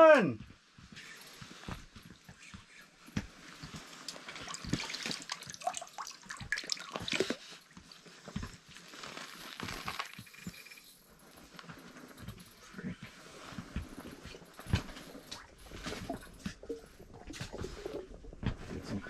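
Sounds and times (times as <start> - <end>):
water and slush trickling: 1.0 - 10.2, 12.5 - 19.0.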